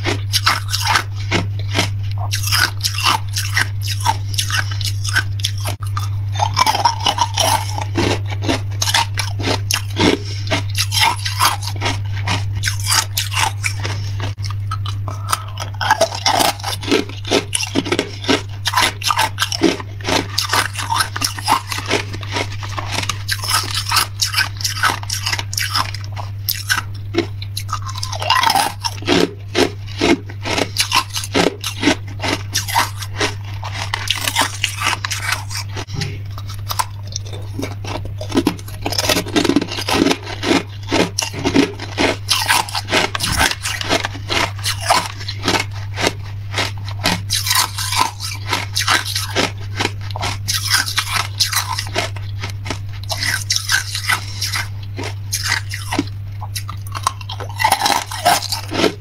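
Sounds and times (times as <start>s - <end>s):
ice cubes crunched between teeth: 0.0s - 59.0s
low electrical hum: 0.0s - 59.0s.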